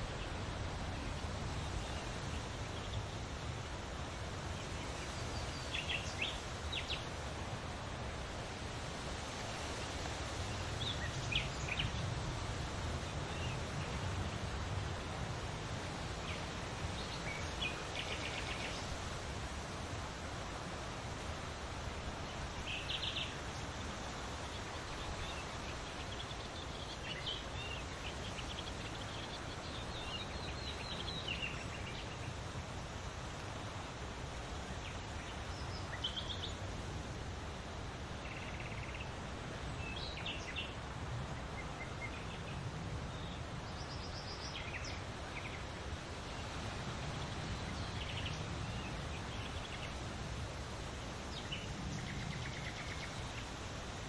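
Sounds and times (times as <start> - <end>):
leaves rustling in wind: 0.0 - 54.0
songbirds chirping: 0.0 - 54.0.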